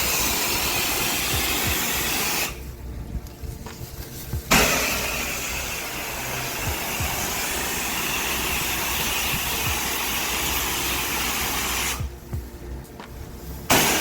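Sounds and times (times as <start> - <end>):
pressure washer spraying water: 0.0 - 2.7, 3.6 - 12.3, 13.1 - 14.0
engine running: 0.0 - 14.0.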